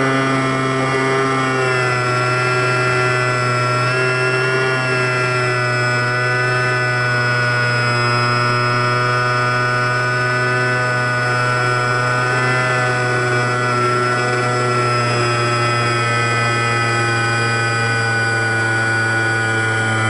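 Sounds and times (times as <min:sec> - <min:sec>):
model plane electric motor whine: 0:00.0 - 0:20.0.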